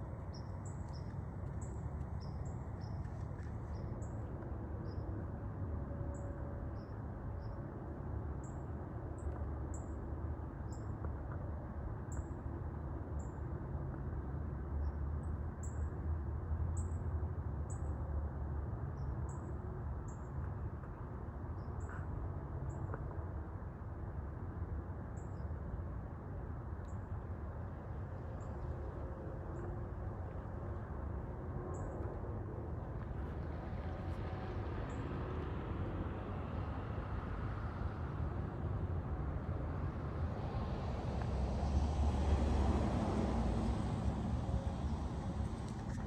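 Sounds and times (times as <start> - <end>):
low rumble of background noise: 0.0 - 46.0.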